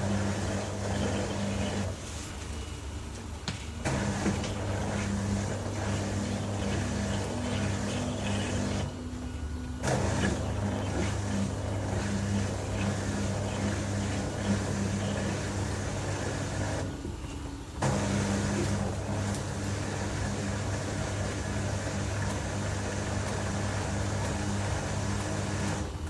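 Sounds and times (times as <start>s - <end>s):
washing machine drum motor humming: 0.0s - 26.0s.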